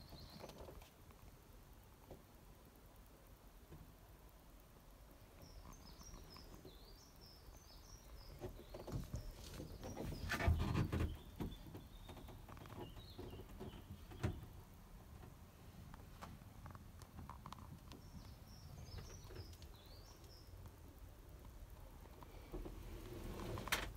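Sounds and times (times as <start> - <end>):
songbird chirping: 0.0 - 1.4, 2.1 - 23.9.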